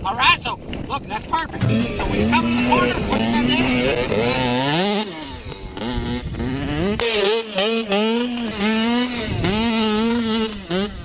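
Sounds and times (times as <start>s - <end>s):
dirt bike engine revving: 1.6s - 11.0s.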